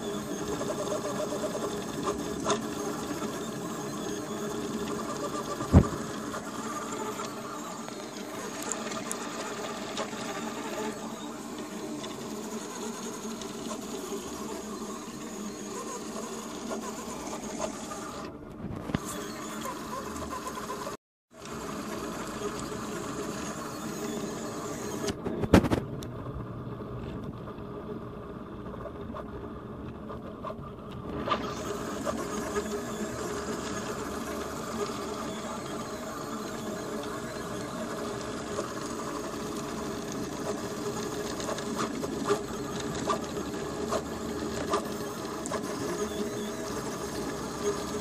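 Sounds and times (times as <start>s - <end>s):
stepper motors whining: 0.0s - 25.4s, 30.0s - 48.0s.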